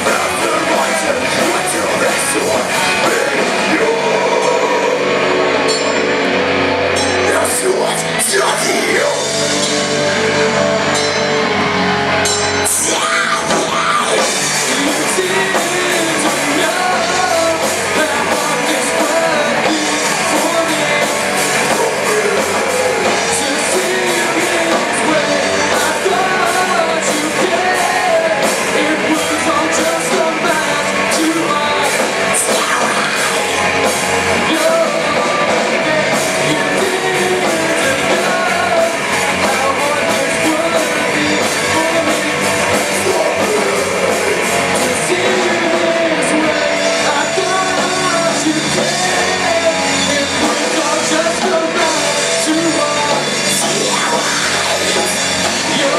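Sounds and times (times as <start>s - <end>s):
singer's vocals: 0.0s - 10.8s, 12.4s - 55.9s
drum kit with cymbals: 0.0s - 55.9s
electric guitars: 0.0s - 55.9s.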